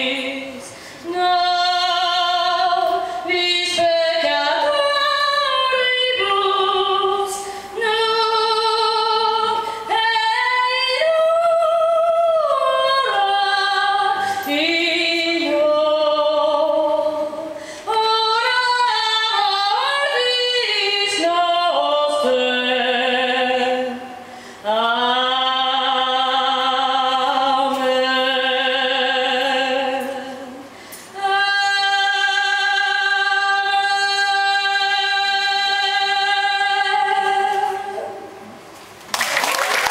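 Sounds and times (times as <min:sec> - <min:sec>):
woman singing with vibrato: 0:00.0 - 0:38.7.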